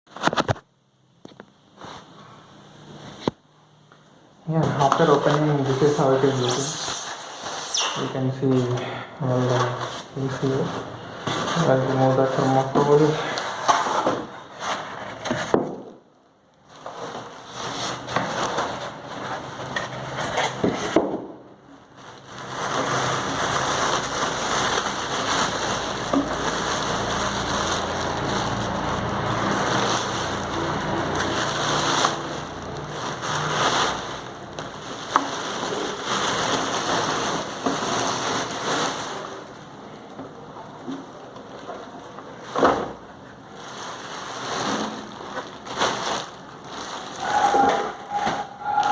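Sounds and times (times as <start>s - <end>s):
polystyrene packing rustling and scraping: 1.3s - 3.3s, 4.6s - 16.0s, 16.6s - 39.9s, 41.0s - 48.9s.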